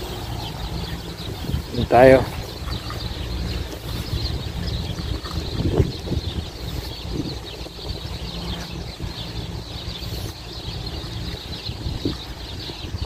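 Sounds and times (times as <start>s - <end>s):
small birds chirping: 0.0s - 13.0s
wind rumbling on microphone: 0.0s - 13.0s.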